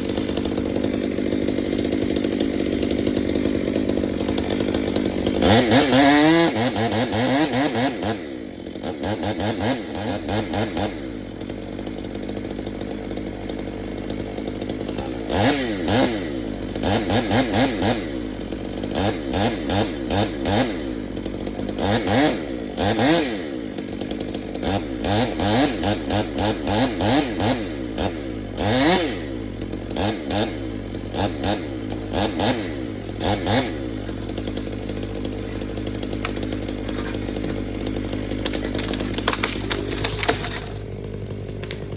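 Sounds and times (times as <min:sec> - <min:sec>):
chainsaw revving and idling: 0:00.0 - 0:41.9.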